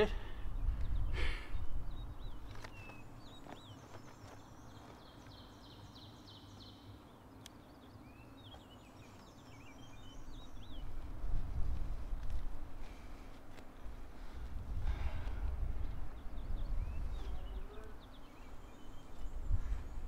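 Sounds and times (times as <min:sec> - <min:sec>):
songbirds chirping and trilling: 0:00.0 - 0:20.0.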